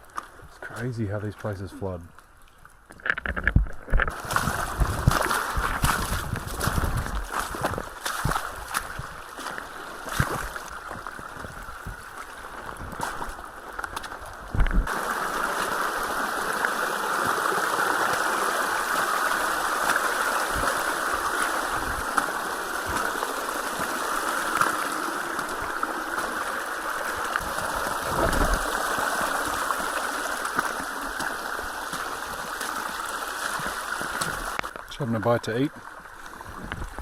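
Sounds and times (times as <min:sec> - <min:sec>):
running water rushing: 0:00.0 - 0:37.0.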